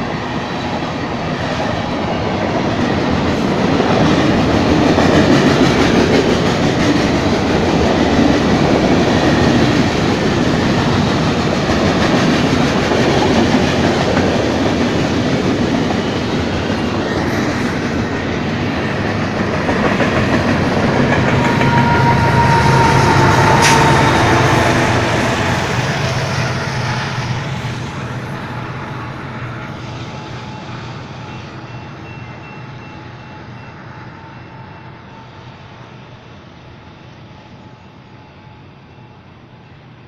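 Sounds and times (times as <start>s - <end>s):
freight train cars rolling: 0.0s - 40.0s.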